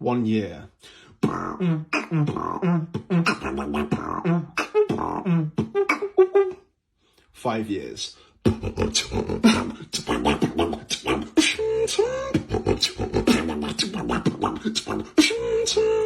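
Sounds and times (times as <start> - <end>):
person beatboxing: 0.8 - 6.6, 8.4 - 16.0.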